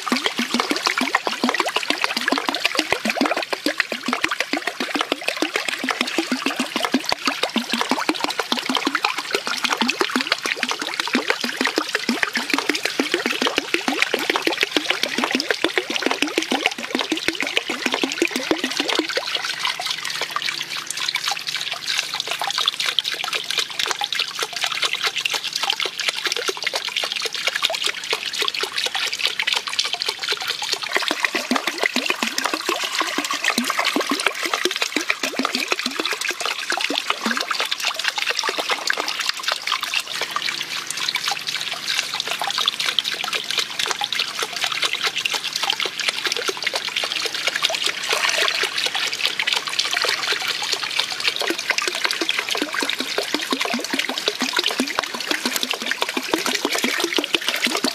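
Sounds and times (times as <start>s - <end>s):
water trickling into pool: 0.0s - 57.9s.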